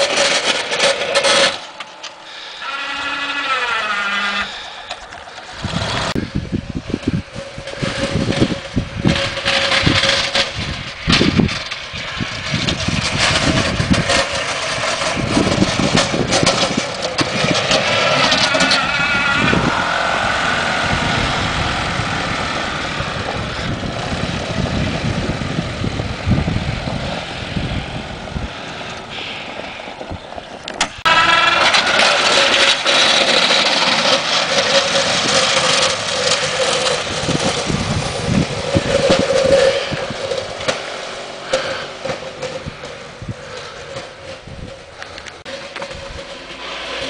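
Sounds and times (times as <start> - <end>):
golf cart engine driving past: 0.0 - 47.0.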